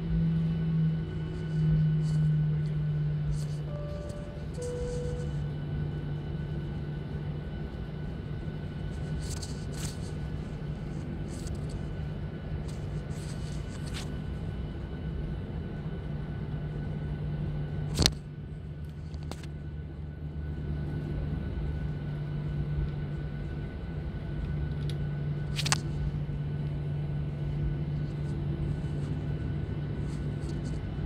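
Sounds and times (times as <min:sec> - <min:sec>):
jet engine cabin hum: 0:00.0 - 0:31.0.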